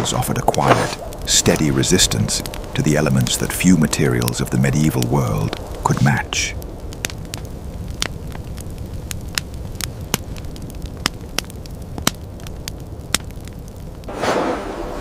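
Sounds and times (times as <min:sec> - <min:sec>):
fire crackling and popping: 0:00.0 - 0:15.0
fire whoosh: 0:00.0 - 0:15.0
low fire rumble: 0:00.0 - 0:15.0.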